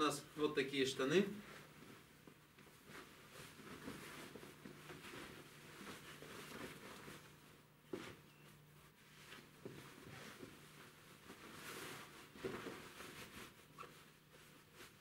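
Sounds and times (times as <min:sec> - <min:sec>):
fabric rustling: 0:01.3 - 0:15.0.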